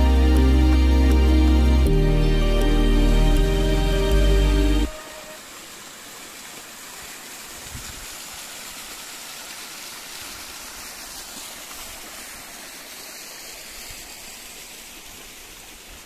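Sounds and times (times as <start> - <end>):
waterfall rushing: 0.0 - 15.4.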